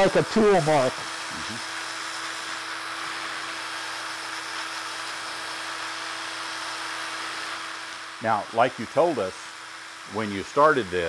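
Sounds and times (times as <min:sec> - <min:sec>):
drill motor whirring: 0:00.0 - 0:11.0
sanding pad hissing on wood: 0:00.0 - 0:11.0.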